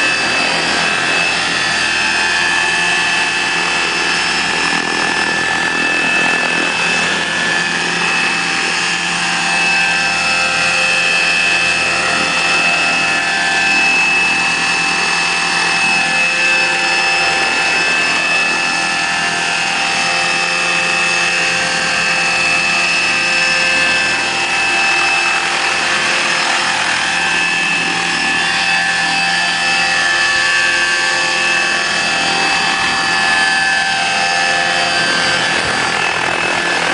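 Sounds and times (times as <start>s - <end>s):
helicopter rotor noise: 0.0s - 36.9s
model helicopter motor whine: 0.0s - 36.9s.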